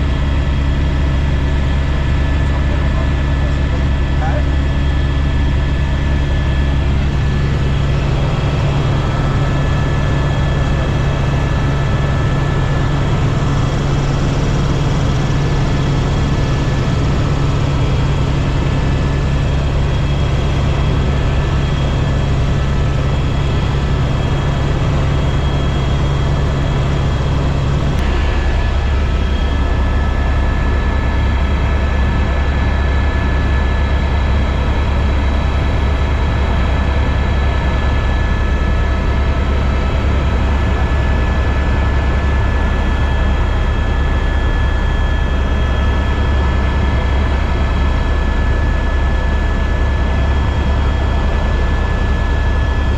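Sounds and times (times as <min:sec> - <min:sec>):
helicopter rotor drone: 0:00.0 - 0:52.9
turbine whine: 0:00.0 - 0:52.9.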